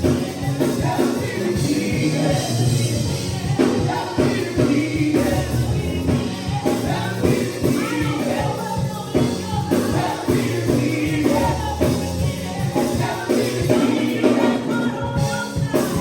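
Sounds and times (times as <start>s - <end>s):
gospel singing voices: 0.0s - 16.0s
live band with drum beat: 0.0s - 16.0s.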